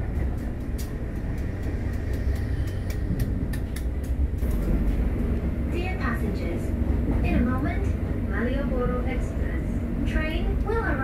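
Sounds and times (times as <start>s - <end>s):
train running gear rumble: 0.0s - 11.0s.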